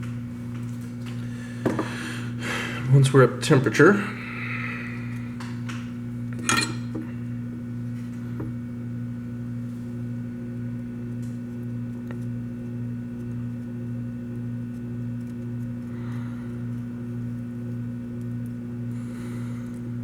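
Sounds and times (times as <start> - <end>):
soldering station humming: 0.0 - 20.0.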